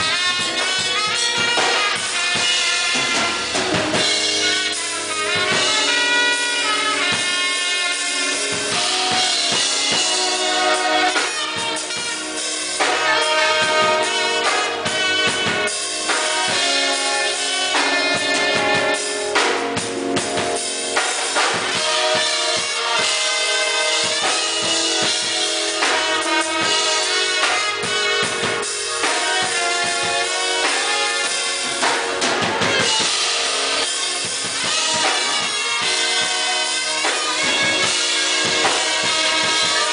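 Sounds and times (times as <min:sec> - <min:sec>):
drum kit beat: 0:00.0 - 0:39.9
instrumental music: 0:00.0 - 0:39.9.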